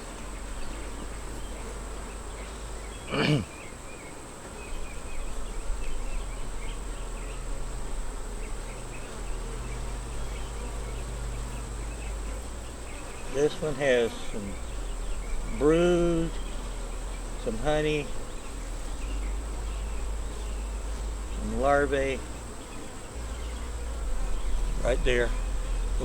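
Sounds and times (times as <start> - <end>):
bee flying past: 0.0 - 26.0
bees buzzing: 0.0 - 26.0.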